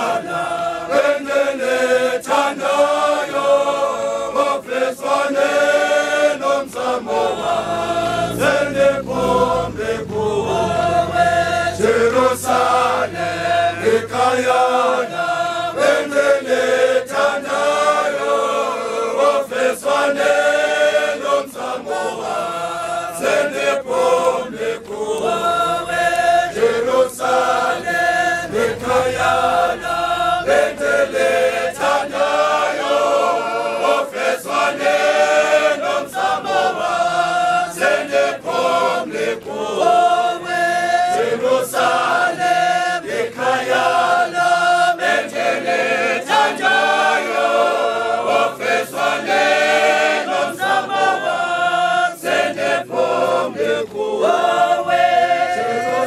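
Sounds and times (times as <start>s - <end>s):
crowd singing a hymn: 0.0s - 56.0s.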